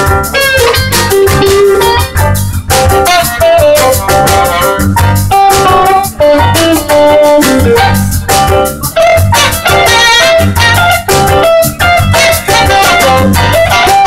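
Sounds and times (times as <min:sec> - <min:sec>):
bass: 0:00.0 - 0:14.0
drum kit: 0:00.0 - 0:14.0
jazz lead melody: 0:00.0 - 0:14.0.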